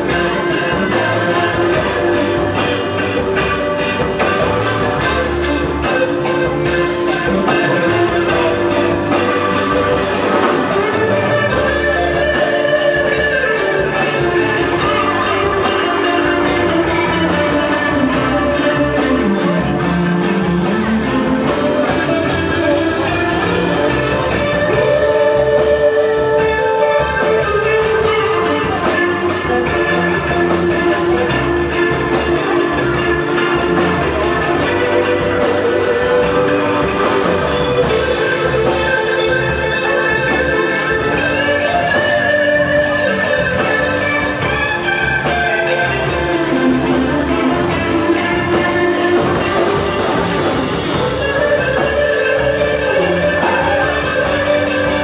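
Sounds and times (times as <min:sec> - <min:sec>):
electric guitar lines bending: 0:00.0 - 0:55.0
rock band playing: 0:00.0 - 0:55.0.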